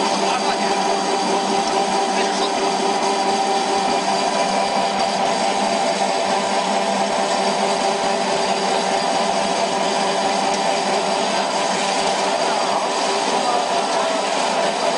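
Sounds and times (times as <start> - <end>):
pellet mill machine hum: 0.0 - 14.9
steady machine tones: 0.0 - 14.9.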